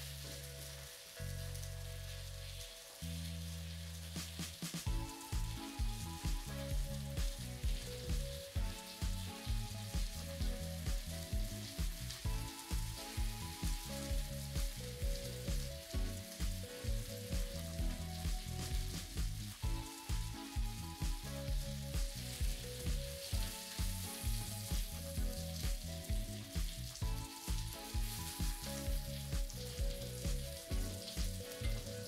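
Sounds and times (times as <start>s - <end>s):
background music with steady beat: 0.0s - 32.0s
sausage sizzling in a pan: 0.0s - 32.0s.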